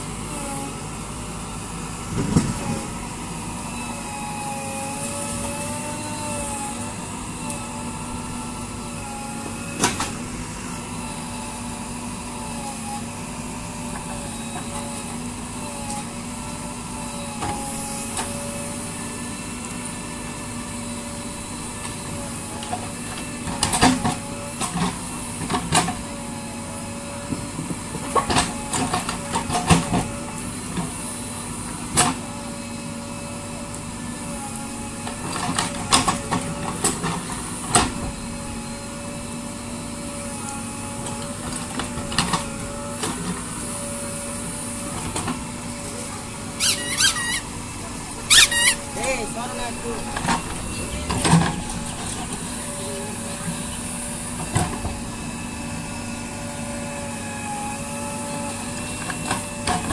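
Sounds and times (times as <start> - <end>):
diesel engine under load: 0.0 - 59.9
hydraulic whine: 0.0 - 59.9.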